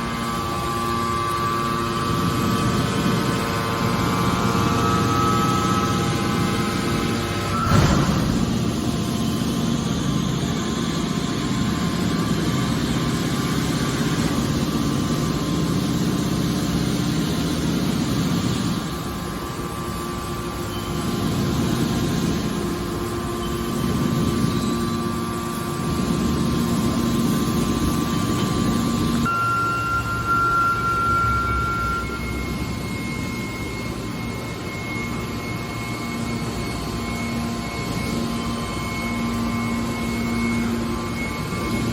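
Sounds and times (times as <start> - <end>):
hydraulic baler motor drone: 0.0 - 41.9.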